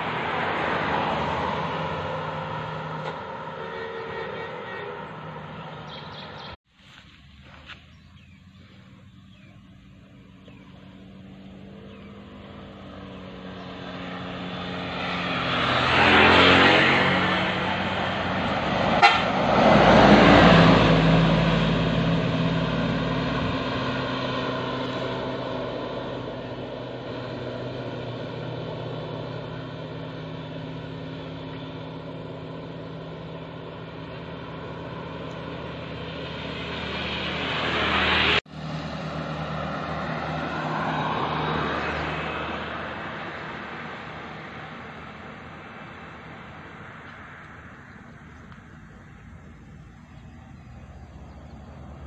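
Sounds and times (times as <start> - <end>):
bus engine passing: 0.0 - 6.6, 7.3 - 52.0
vehicles passing: 0.0 - 52.0.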